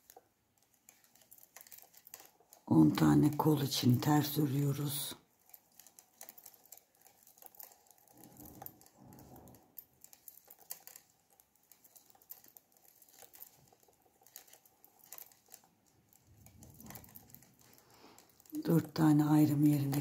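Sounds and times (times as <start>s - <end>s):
knitting needles clicking: 0.0s - 20.0s.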